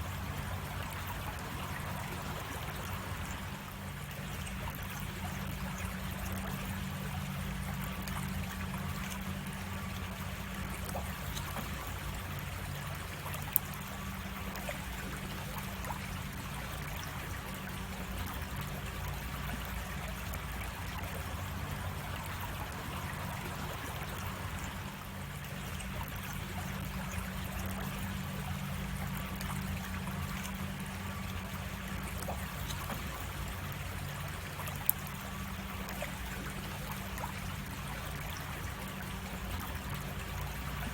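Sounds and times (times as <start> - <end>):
creek water flowing over cascade: 0.0 - 40.9
low steady hum: 0.0 - 40.9.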